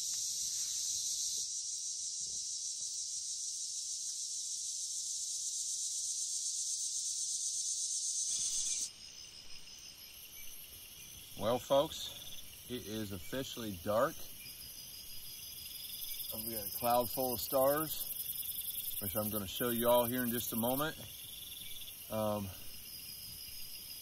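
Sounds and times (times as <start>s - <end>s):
faint insect chirps: 0.0s - 24.0s
insects buzzing shrilly: 0.0s - 24.0s.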